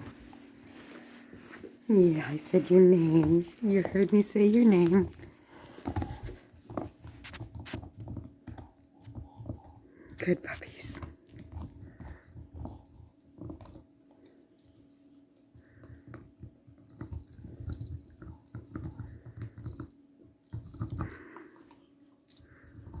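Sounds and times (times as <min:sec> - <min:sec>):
dogs chewing toys: 0:00.0 - 0:23.0.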